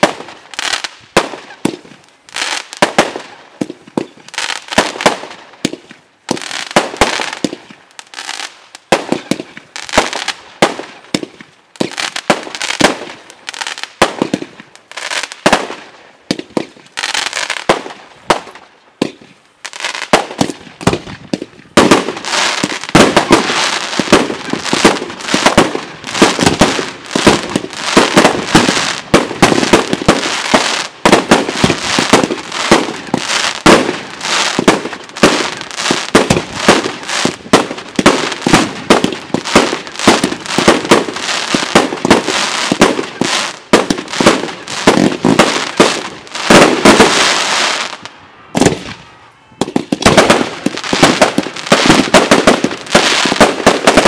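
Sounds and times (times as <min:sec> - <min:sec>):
firework bangs: 0:00.0 - 0:54.0.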